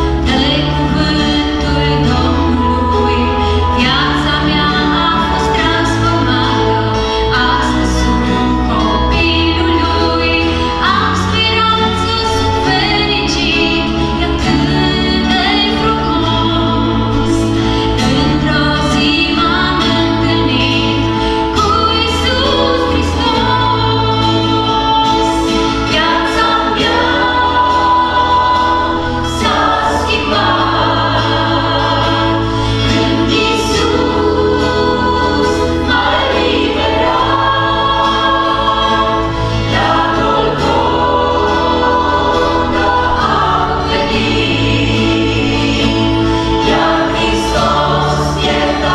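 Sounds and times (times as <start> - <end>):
acoustic guitar: 0.0 - 48.9
electric bass: 0.0 - 48.9
group singing a hymn: 0.0 - 48.9.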